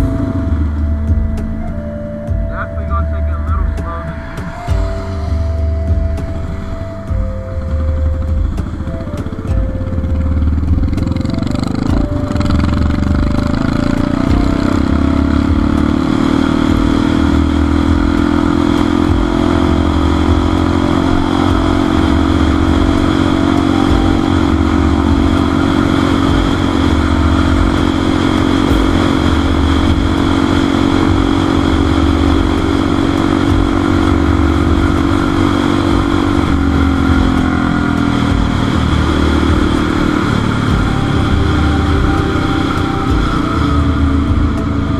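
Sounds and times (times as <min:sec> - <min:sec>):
motorcycle engine running: 0:00.0 - 0:02.6, 0:03.4 - 0:44.9.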